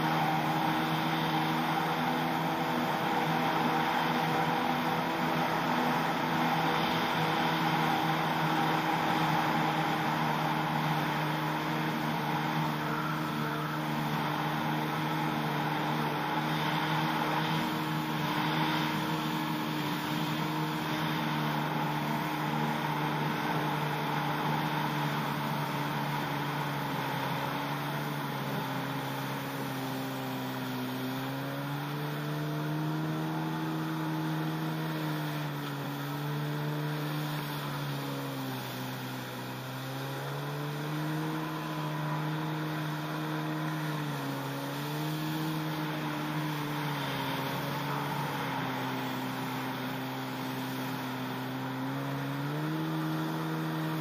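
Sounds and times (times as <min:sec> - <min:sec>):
jet ski engine running: 0:00.0 - 0:54.0
water rushing under hull: 0:00.0 - 0:54.0.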